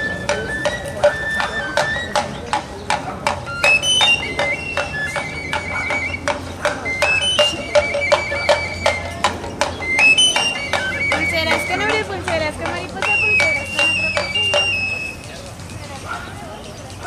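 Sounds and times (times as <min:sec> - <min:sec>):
shrill reed flute melody: 0:00.0 - 0:15.6.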